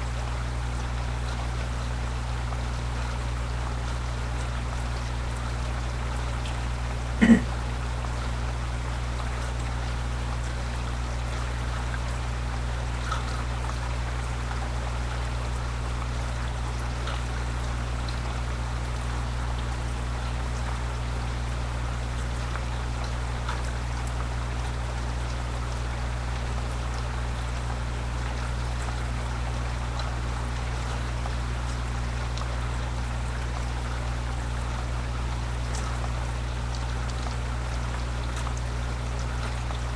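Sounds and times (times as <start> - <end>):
low electrical hum: 0.0 - 39.9
steady rain falling: 0.0 - 39.9.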